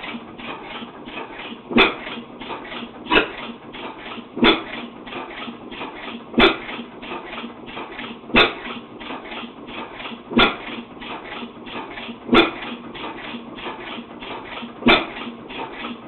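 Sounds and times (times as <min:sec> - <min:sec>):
engine coasting clatter: 0:00.0 - 0:16.0
engine exhaust bangs: 0:00.0 - 0:16.0.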